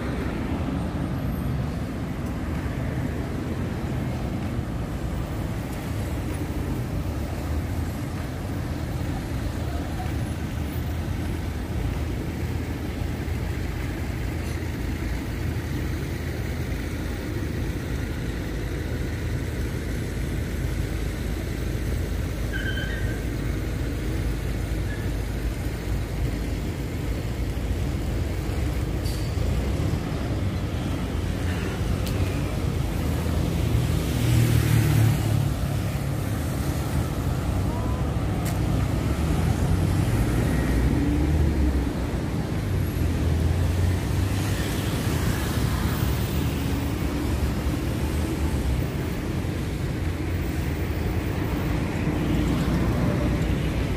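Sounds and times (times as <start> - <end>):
cars passing: 0.0 - 53.9.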